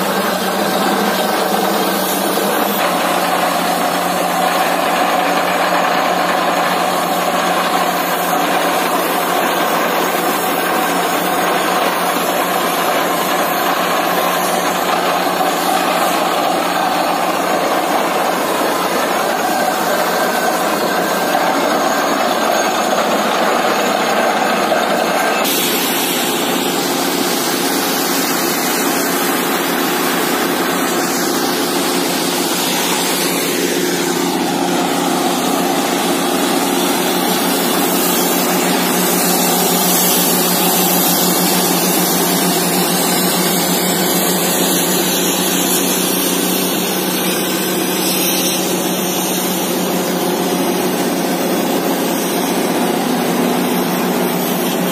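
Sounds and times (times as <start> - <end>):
drilling rig and compressor din: 0.0 - 54.9.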